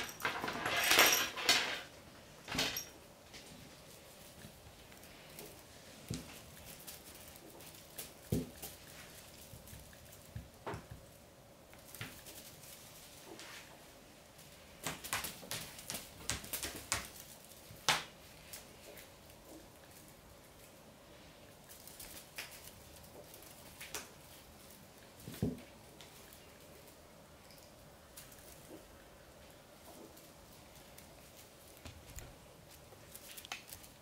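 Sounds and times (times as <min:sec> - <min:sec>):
feather toy taps and rustles: 0:02.5 - 0:20.8, 0:21.6 - 0:26.9, 0:29.8 - 0:34.0.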